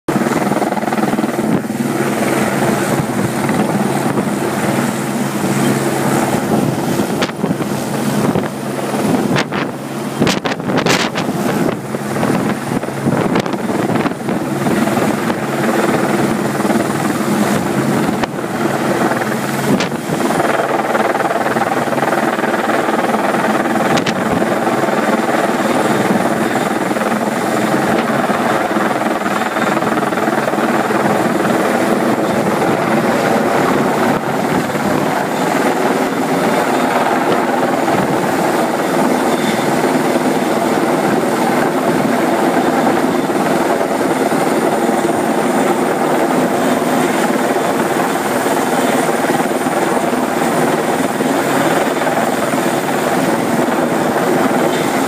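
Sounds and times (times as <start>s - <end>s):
helicopter rotor drone: 0.1s - 55.0s.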